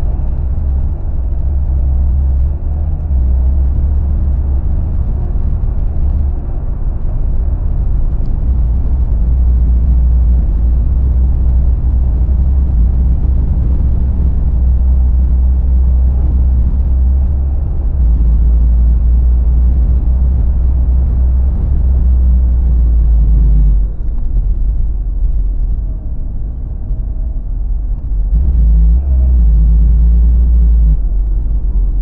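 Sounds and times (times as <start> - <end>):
car on road rumble: 0.0 - 32.0.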